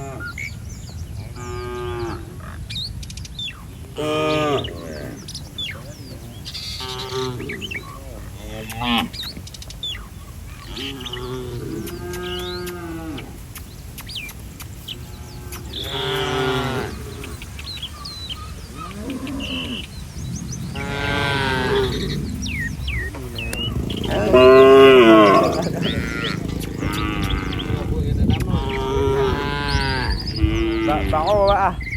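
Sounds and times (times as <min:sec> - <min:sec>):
cattle mooing: 0:00.0 - 0:00.6, 0:01.2 - 0:02.6, 0:04.0 - 0:09.2, 0:10.6 - 0:13.5, 0:15.0 - 0:31.6
bird chirps: 0:00.0 - 0:31.9.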